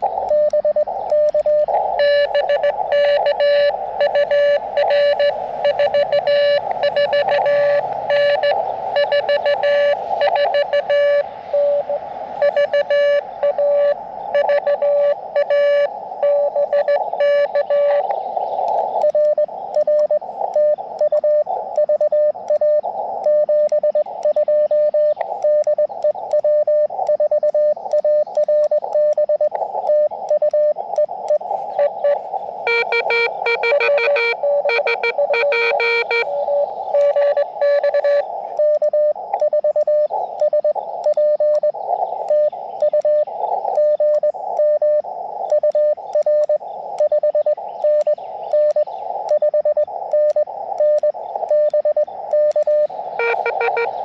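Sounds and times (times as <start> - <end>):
morse code beeps: 0.0 - 54.0
radio band noise: 0.0 - 54.0.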